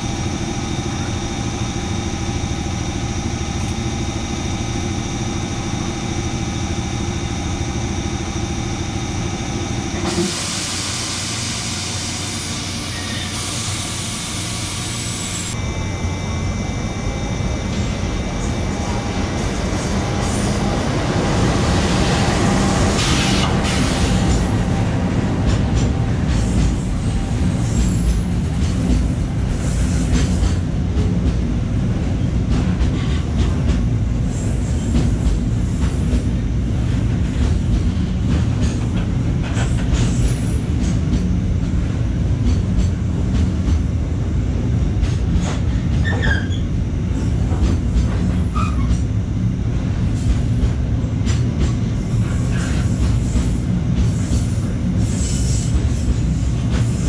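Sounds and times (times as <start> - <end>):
electric train running on track: 0.0 - 57.0.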